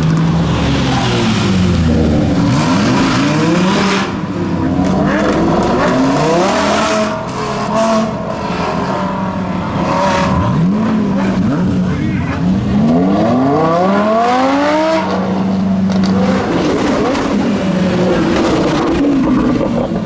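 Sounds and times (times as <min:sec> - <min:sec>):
sports car engine revving: 0:00.0 - 0:20.0.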